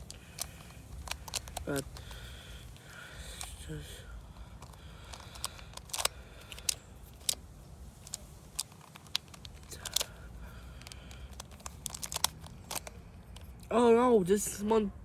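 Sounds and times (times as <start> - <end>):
plastic puzzle cube clicking: 0.0 - 3.9, 4.5 - 13.7.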